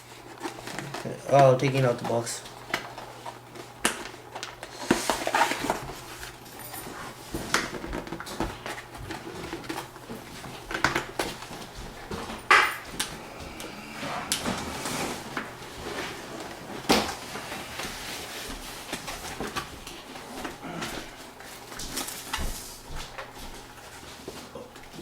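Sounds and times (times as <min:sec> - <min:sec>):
cardboard rustling and scraping: 0:00.0 - 0:12.5, 0:13.2 - 0:25.0.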